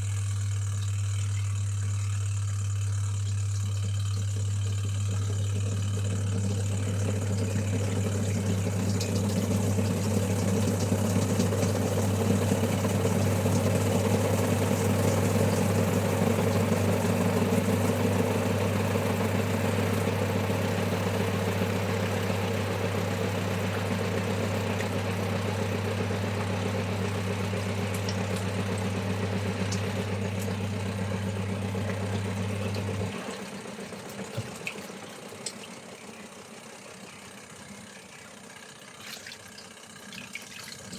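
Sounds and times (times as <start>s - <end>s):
electric motor hum: 0.0s - 35.2s.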